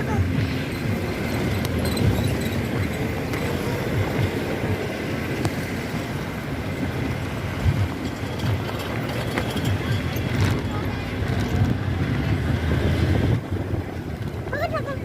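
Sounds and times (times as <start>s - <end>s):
moving vehicle road noise: 0.0s - 15.0s.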